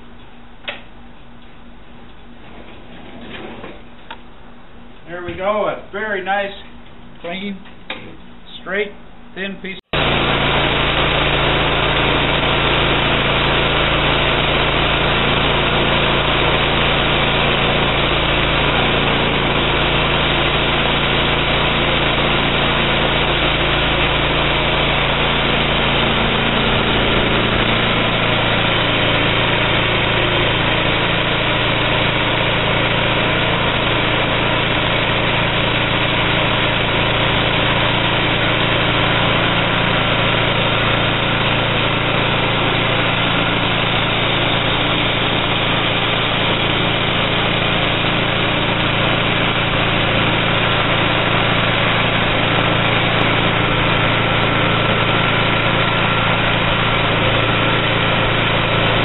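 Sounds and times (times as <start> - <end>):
sawmill gas engine running: 2.3 - 59.0.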